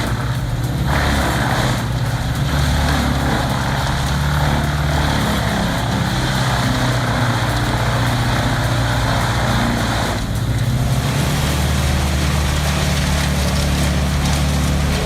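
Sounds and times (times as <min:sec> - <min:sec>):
high whine: 0:00.0 - 0:15.0
large engine running: 0:00.0 - 0:15.0.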